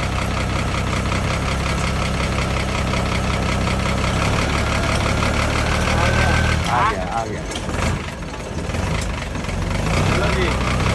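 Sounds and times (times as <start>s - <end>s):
diesel truck engine idling: 0.0s - 10.9s.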